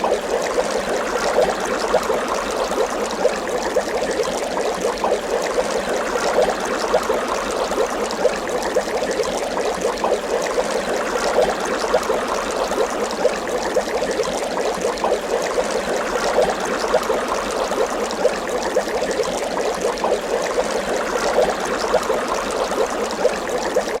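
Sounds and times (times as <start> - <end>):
water bubbling: 0.0 - 24.0.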